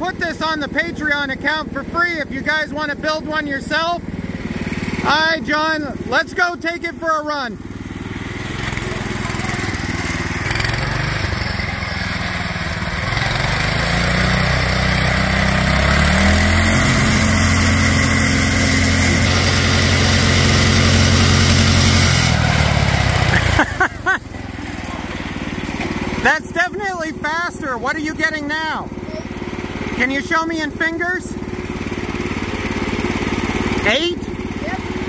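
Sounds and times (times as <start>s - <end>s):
go-kart engine revving: 0.0s - 35.0s.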